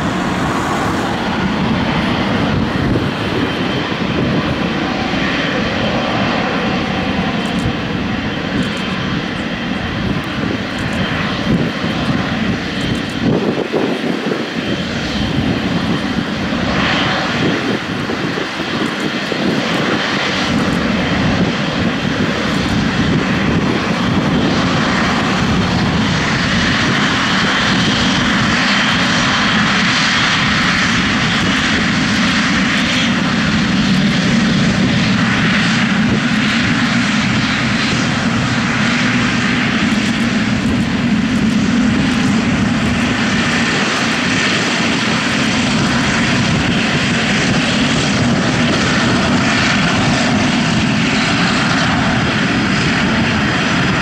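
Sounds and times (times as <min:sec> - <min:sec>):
jet engines of taxiing airliner: 0:00.0 - 0:54.0.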